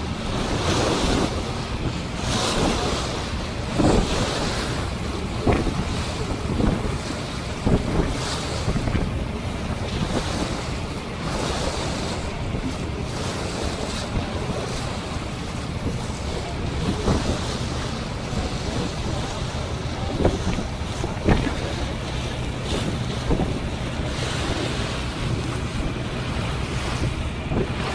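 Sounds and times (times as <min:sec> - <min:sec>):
choppy water washing past boat: 0:00.0 - 0:27.9
wind buffeting microphone: 0:00.0 - 0:27.9.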